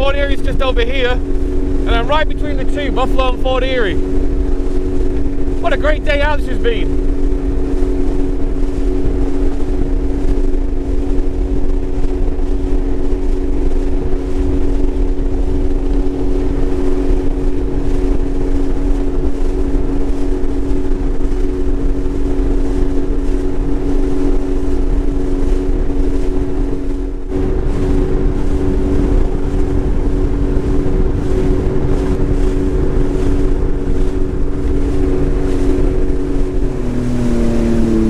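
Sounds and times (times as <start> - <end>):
jet ski engine drone: 0.0 - 38.0.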